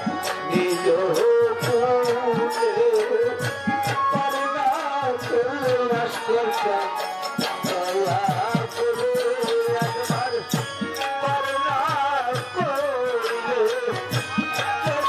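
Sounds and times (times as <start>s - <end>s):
ornamented melody: 0.0s - 15.0s
steady percussion: 0.0s - 15.0s.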